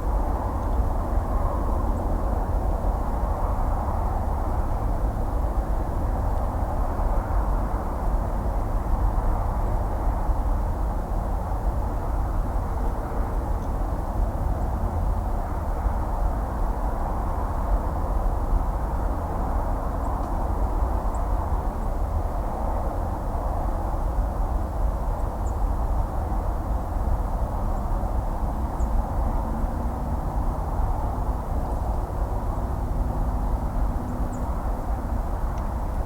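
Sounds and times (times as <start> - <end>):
distant highway traffic rumble: 0.0 - 36.0.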